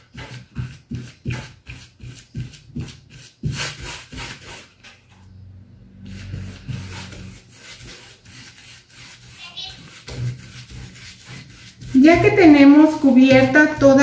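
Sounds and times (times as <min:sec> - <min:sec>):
paintbrush scrubbing on canvas: 0:00.0 - 0:04.8, 0:05.9 - 0:14.0.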